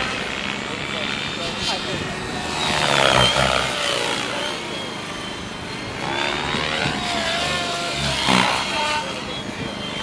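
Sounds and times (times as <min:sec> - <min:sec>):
remote control helicopter whine: 0:00.0 - 0:10.0.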